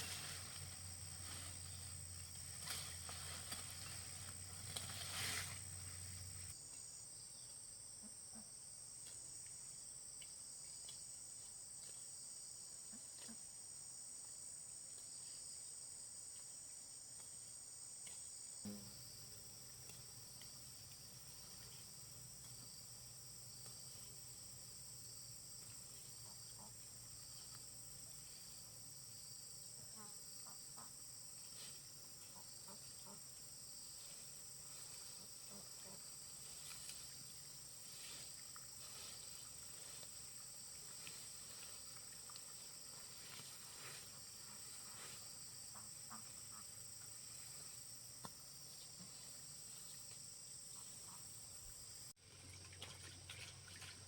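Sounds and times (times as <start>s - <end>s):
insects chirring: 0.0s - 13.0s, 13.7s - 54.0s
rustle: 0.0s - 54.0s.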